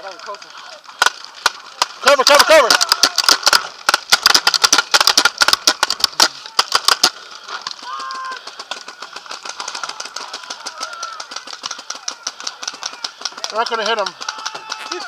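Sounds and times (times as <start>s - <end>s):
paintball markers firing: 0.9s - 15.0s.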